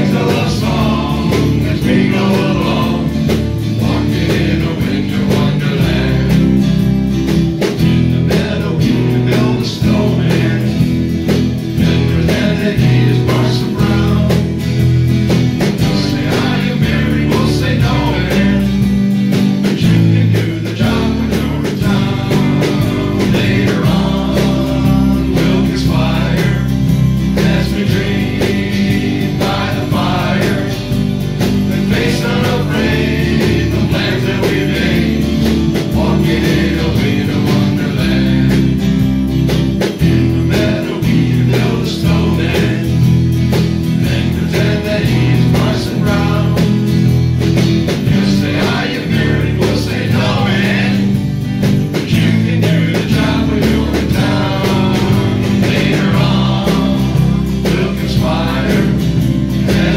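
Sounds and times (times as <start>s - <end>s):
bass notes: 0.0s - 59.9s
guitar: 0.0s - 59.9s
steady beat: 0.0s - 59.9s.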